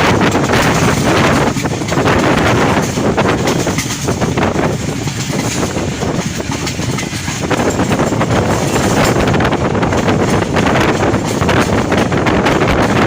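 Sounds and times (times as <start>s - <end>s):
train wheels clattering over rail joints: 0.0s - 13.0s
wind buffeting microphone: 0.0s - 13.0s.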